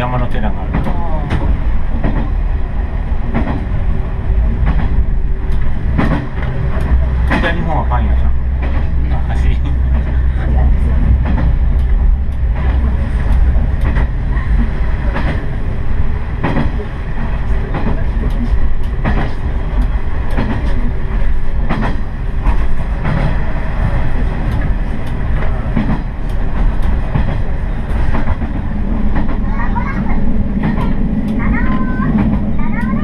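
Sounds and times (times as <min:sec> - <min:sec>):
railcar engine and wheels rumbling: 0:00.0 - 0:33.0.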